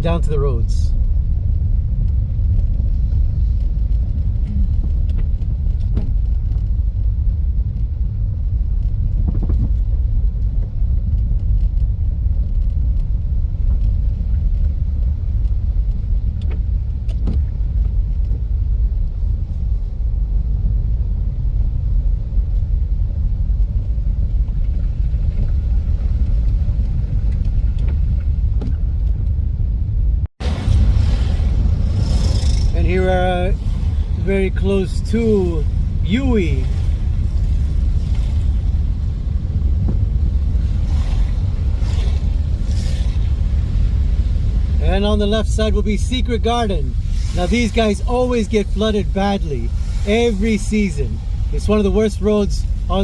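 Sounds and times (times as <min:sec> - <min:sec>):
vehicle driving on road: 0:00.0 - 0:53.0.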